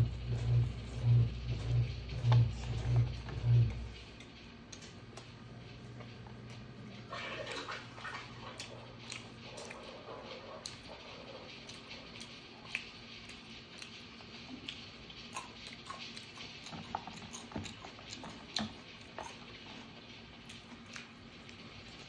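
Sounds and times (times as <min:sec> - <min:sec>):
faint low hum: 0:00.0 - 0:22.0
soft chewing: 0:00.2 - 0:22.0.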